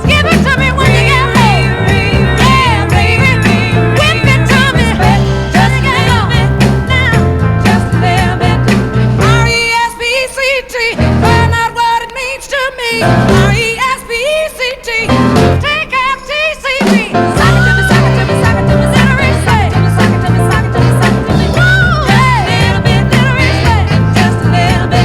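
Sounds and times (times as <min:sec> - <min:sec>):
rhythm and blues band playing: 0:00.0 - 0:14.2, 0:14.9 - 0:25.0
person singing: 0:00.0 - 0:25.0.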